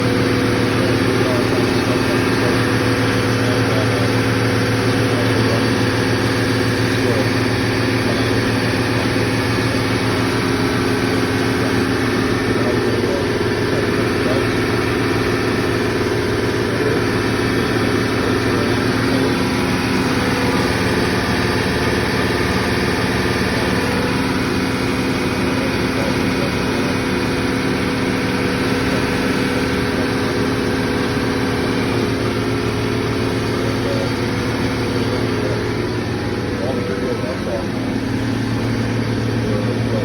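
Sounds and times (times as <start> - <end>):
refrigeration compressor humming: 0.0 - 40.0.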